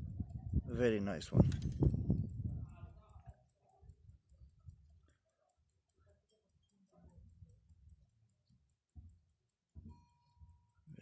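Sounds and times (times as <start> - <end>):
pocket watch ticking: 0.0 - 11.0.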